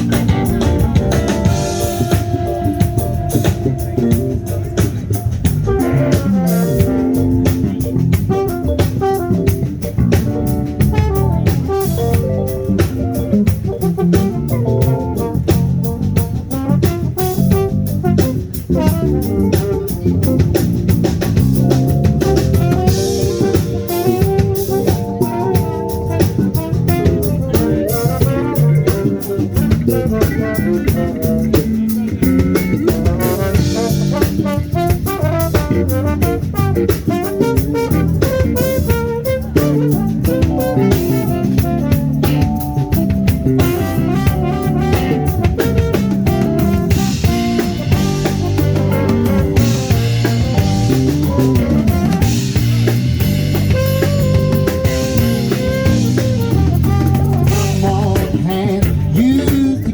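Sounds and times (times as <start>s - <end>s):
drum kit beat: 0.0s - 59.9s
live band playing: 0.0s - 59.9s.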